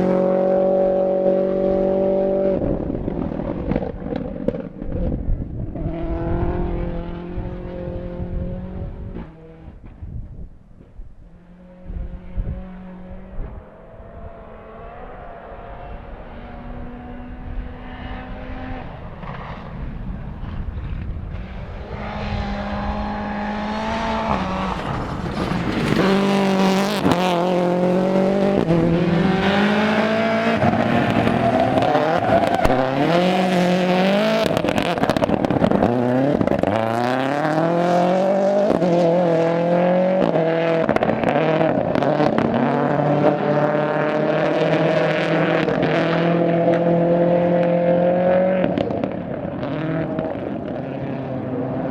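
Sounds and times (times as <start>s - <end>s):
rally car engine revving: 0.0s - 9.9s, 11.4s - 51.9s.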